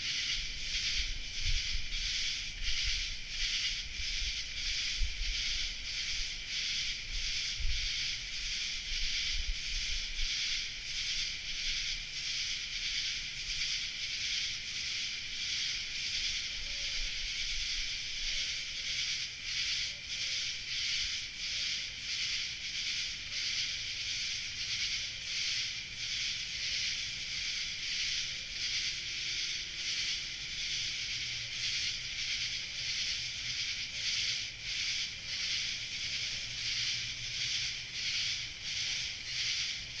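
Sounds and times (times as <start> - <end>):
cicadas buzzing: 0.0 - 40.0.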